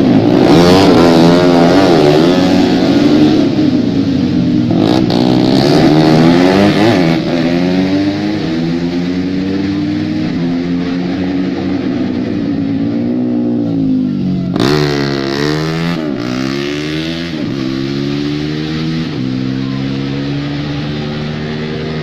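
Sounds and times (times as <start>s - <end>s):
racing motorcycle engines revving: 0.0s - 22.0s.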